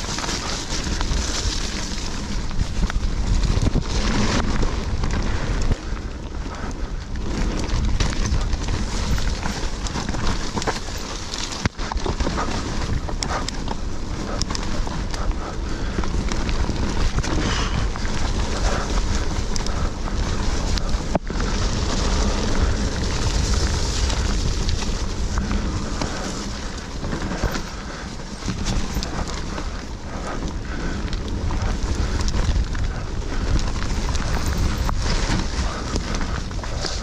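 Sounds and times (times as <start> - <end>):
tyres rolling on dirt: 0.0 - 37.0
wind buffeting microphone: 0.0 - 37.0
bike knocks and rattles: 7.2 - 37.0.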